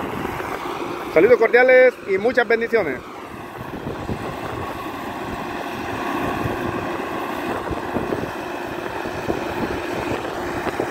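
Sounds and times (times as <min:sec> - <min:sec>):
wind buffeting microphone: 0:00.0 - 0:01.2, 0:03.2 - 0:10.9
tractor diesel engine running: 0:00.0 - 0:10.9.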